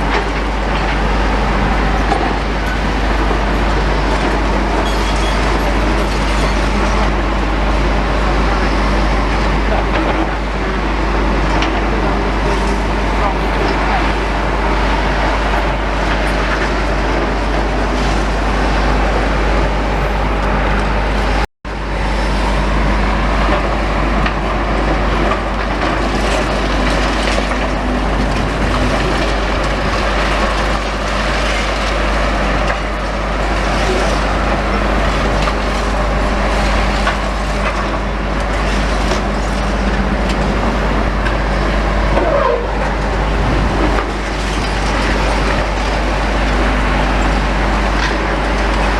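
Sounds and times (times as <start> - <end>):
demolition machinery running: 0.0 - 48.9.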